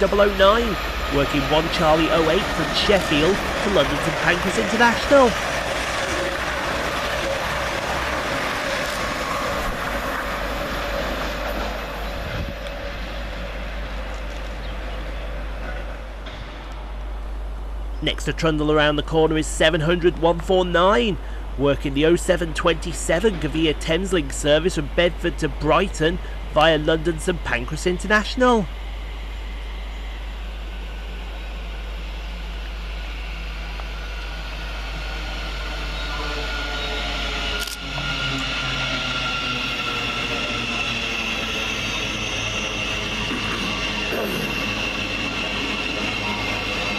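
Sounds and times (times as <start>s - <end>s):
train passing at speed: 0.0s - 20.0s, 20.9s - 46.9s
mid-pitched train whine: 0.0s - 46.9s.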